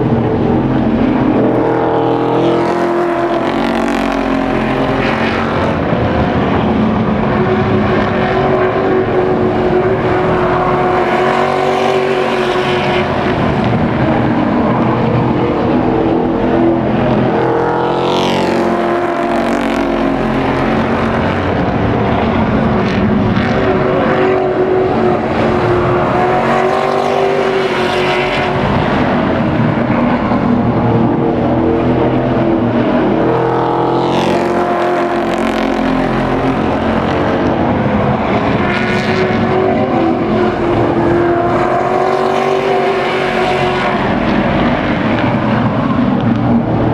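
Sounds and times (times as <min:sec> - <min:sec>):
race truck engines: 0:00.0 - 0:46.9
truck passing close: 0:00.0 - 0:46.9.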